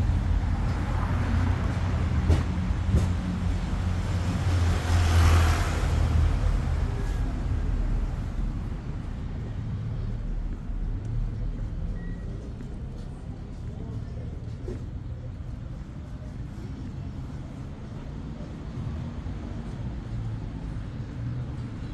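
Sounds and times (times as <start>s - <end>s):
low rumble of street traffic: 0.0s - 21.9s.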